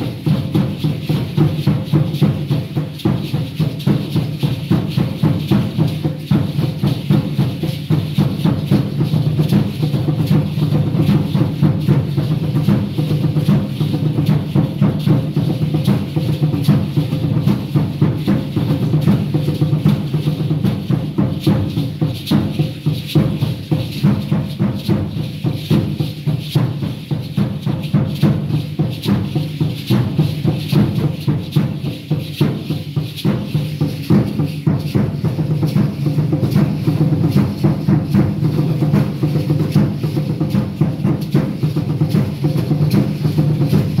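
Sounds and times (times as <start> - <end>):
wooden hand drum beating: 0.0 - 44.0.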